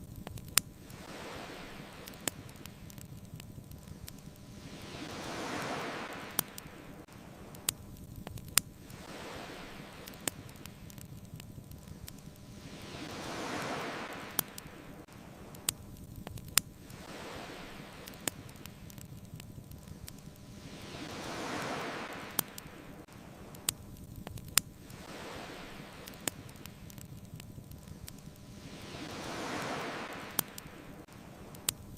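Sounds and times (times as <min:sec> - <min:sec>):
bonfire crackling: 0:00.0 - 0:31.9
fire popping: 0:00.0 - 0:31.9
ocean waves washing in: 0:00.5 - 0:31.9.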